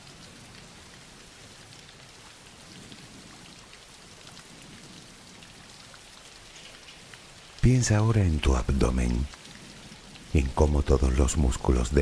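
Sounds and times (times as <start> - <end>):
soft rain pattering: 0.0 - 12.0.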